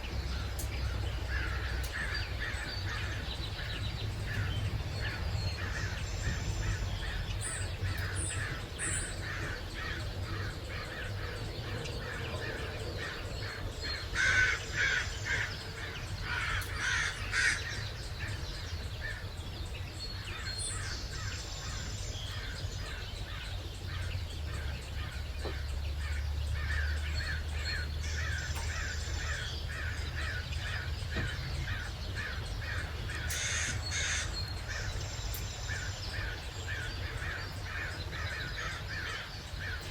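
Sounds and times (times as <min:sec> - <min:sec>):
birds calling: 0:00.0 - 0:39.9
loud harsh bird calls: 0:00.0 - 0:39.9.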